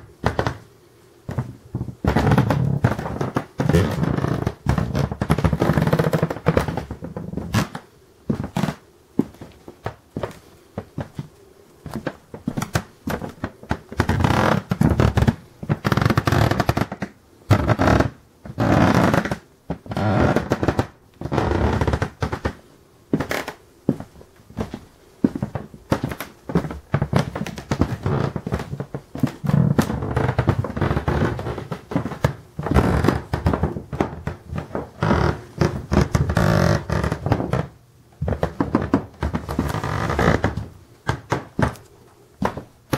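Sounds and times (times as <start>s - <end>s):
wooden floorboards creaking: 0.0s - 0.7s, 1.3s - 42.9s.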